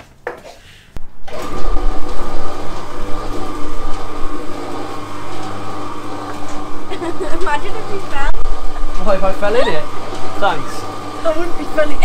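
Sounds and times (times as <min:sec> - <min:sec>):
electric cement mixer whining: 0:01.2 - 0:12.0.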